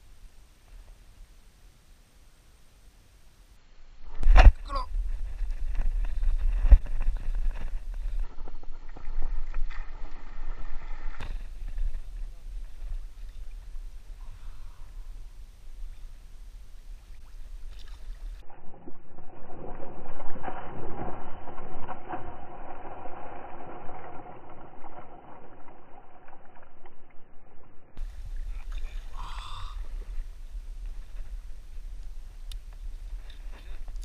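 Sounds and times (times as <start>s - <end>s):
water splashing and churning: 4.2s - 26.8s, 28.0s - 34.0s.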